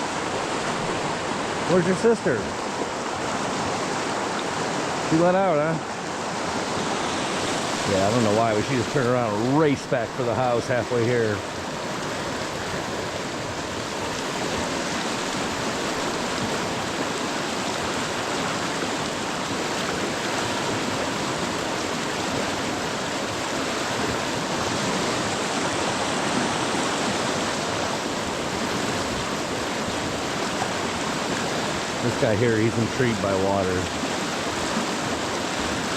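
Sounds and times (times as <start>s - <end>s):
river water rushing: 0.0s - 35.9s.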